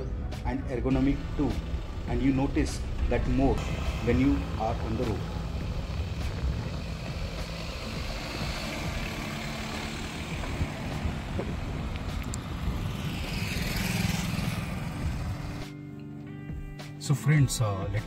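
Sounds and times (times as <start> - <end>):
car driving past: 1.2 - 15.7.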